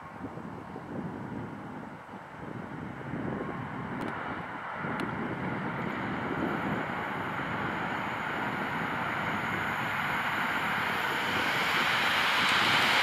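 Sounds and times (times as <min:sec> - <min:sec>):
electric train rumbling on track: 0:00.0 - 0:13.0.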